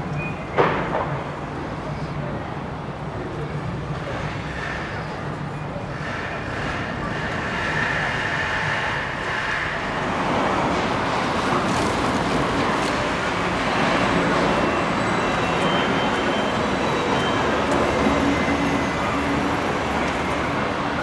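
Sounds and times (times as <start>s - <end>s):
urban traffic rumble: 0.0s - 21.0s.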